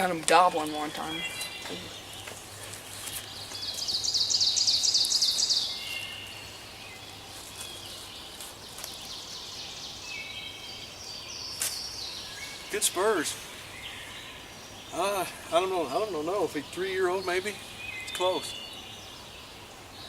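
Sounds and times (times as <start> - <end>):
woodland background: 0.0 - 20.0.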